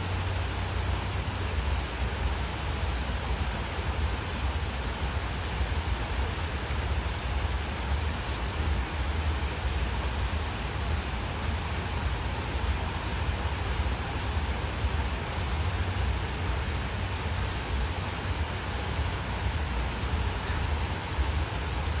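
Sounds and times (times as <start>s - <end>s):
continuous low rumble: 0.0s - 22.0s.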